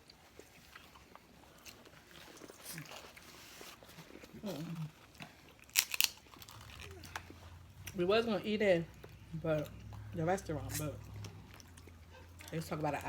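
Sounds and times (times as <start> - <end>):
chewing and mouth noises: 0.0 - 8.1, 8.8 - 13.0.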